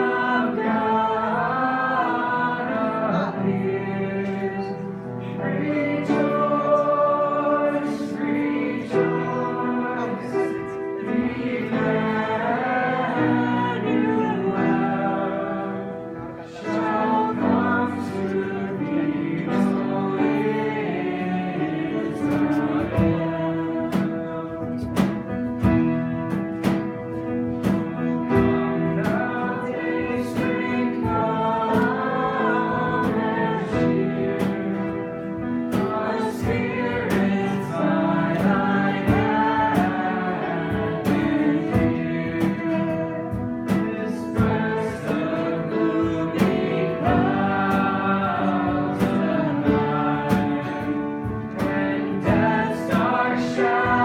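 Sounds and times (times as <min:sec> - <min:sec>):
instrumental accompaniment: 0:00.0 - 0:54.0
people singing worship song: 0:00.0 - 0:54.0.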